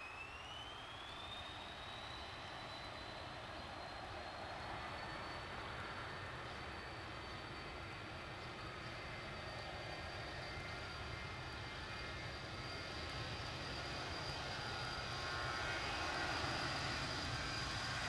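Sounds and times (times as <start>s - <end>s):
jet engines at high power: 0.0s - 18.0s.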